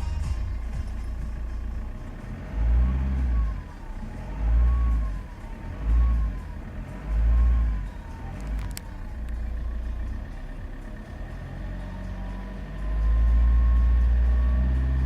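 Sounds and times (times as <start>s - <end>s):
diesel engine idling and revving: 0.0s - 15.0s.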